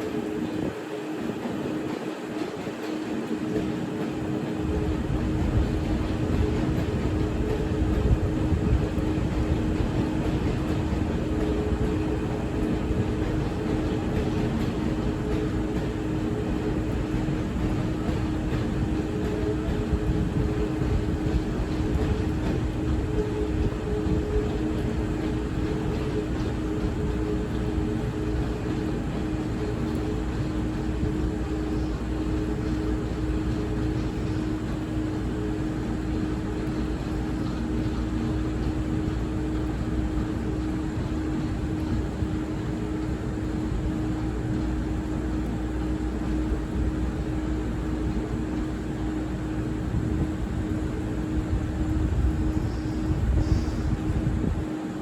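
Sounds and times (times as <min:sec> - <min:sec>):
train running: 0:00.0 - 0:55.0.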